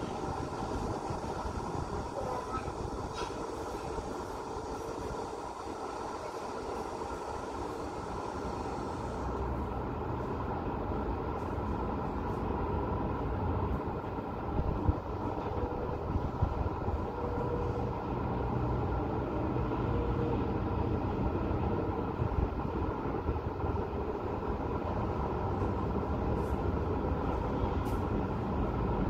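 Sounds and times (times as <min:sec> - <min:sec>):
distant road traffic hum: 0:00.0 - 0:29.0.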